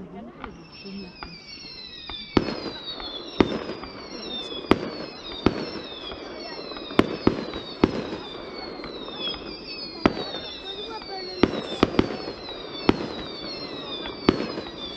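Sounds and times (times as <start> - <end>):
firework bangs: 0.0 - 14.9
high whistles gliding down: 0.0 - 14.9.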